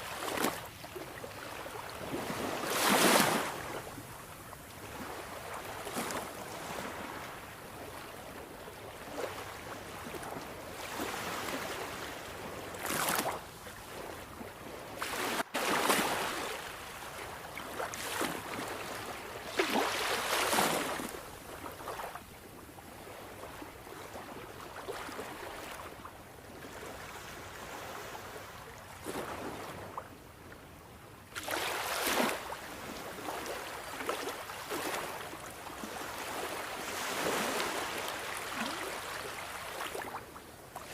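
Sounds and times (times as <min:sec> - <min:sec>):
sea waves breaking on shore: 0:00.0 - 0:22.2, 0:22.9 - 0:30.0, 0:31.3 - 0:40.9.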